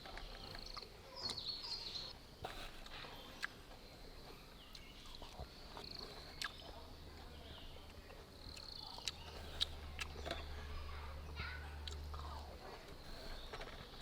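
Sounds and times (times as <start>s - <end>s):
birds chirping and trilling: 0.2s - 2.2s, 2.9s - 14.0s.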